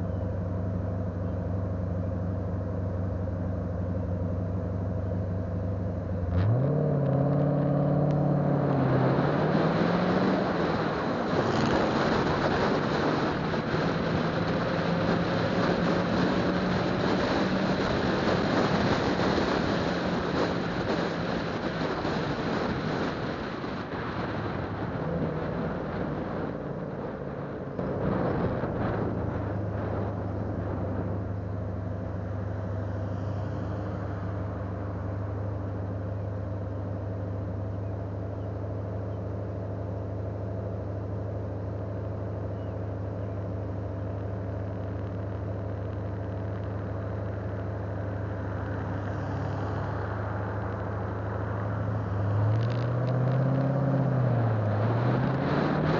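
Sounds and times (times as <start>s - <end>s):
car engine idling: 0.0s - 6.3s, 10.2s - 54.7s
road and wind noise: 0.0s - 55.9s.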